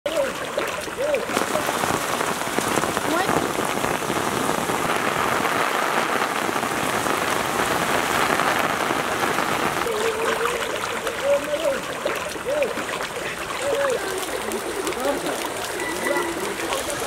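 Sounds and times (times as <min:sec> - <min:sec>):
heavy rain on water: 0:00.0 - 0:17.0.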